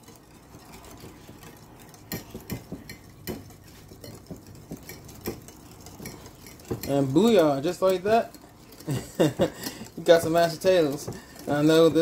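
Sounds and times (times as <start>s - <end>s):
whisk scraping and clicking on glass: 0.0s - 12.0s.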